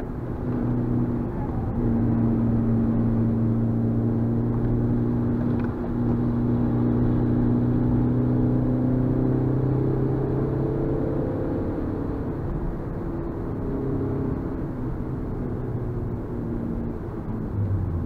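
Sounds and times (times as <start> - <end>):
car engine under load: 0.0 - 18.0
road noise: 0.0 - 18.0.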